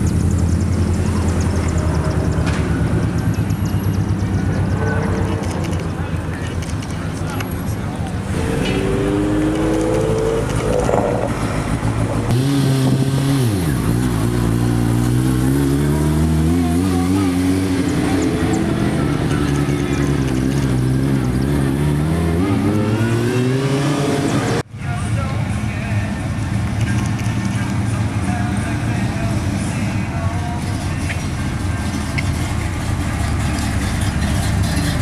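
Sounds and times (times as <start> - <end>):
car engine accelerating: 0.0 - 24.7, 30.5 - 35.0.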